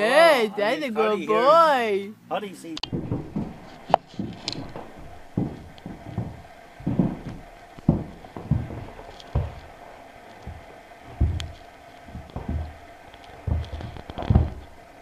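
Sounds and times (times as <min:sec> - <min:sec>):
puppy paws thumping on carpet: 0:02.9 - 0:15.0.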